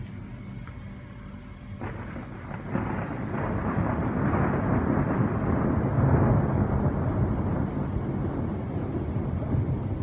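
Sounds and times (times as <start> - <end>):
thunder rumbling: 1.8 - 10.0.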